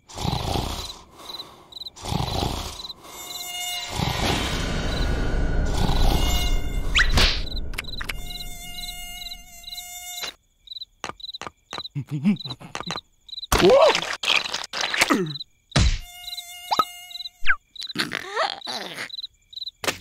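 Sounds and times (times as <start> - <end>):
cartoon mosquito buzz: 0.1 - 10.4, 12.4 - 20.0.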